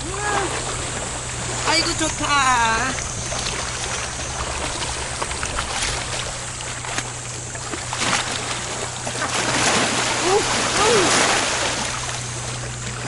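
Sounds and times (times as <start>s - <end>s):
seawater sloshing: 0.0s - 13.0s
short water splashes: 0.0s - 13.0s
steady low drone: 0.0s - 13.0s.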